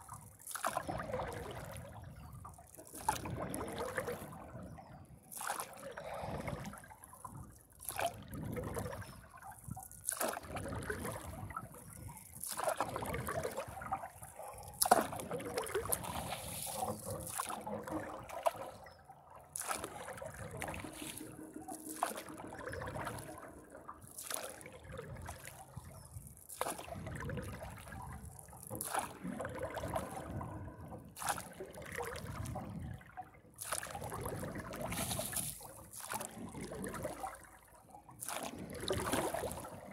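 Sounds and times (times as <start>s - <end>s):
paddle splashing in water: 0.0s - 4.5s, 5.4s - 7.1s, 7.8s - 30.4s, 31.1s - 32.6s, 33.6s - 39.9s.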